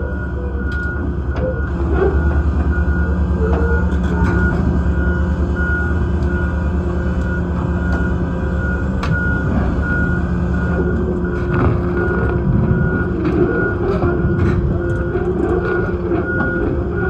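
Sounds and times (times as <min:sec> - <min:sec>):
diesel engine running: 0:00.0 - 0:17.0
high warning beeps: 0:00.0 - 0:17.0.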